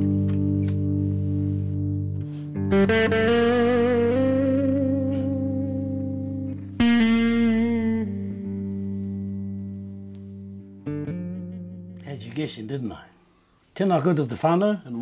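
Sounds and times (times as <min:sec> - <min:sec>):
guitar with vibrato: 0:00.0 - 0:12.3.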